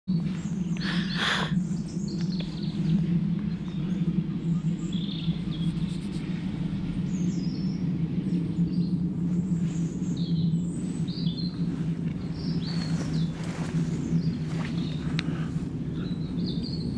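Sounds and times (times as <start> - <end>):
small birds chirping: 0.1 - 16.9
escaping steam roar: 0.2 - 16.9.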